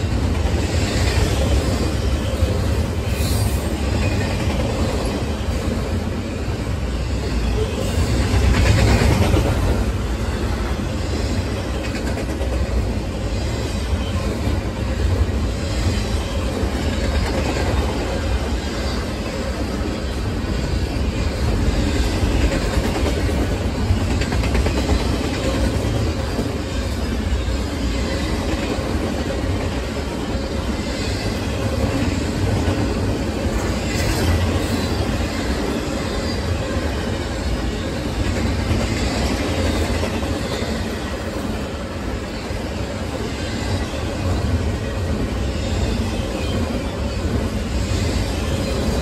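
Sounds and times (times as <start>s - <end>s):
freight train rumbling past: 0.0s - 49.0s.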